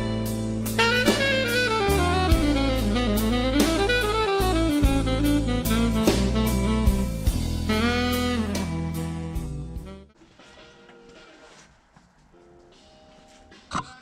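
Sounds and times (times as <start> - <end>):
jazz music with saxophone: 0.0 - 11.6.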